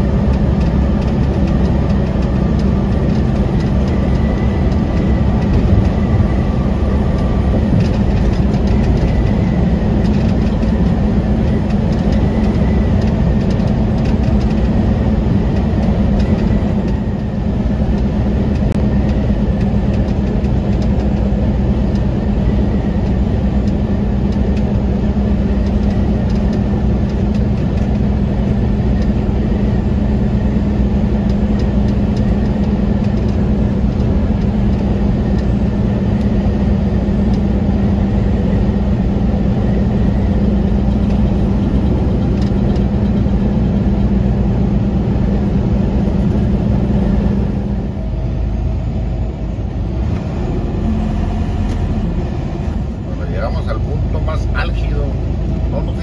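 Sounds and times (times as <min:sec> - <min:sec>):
diesel truck engine droning: 0:00.0 - 0:56.0.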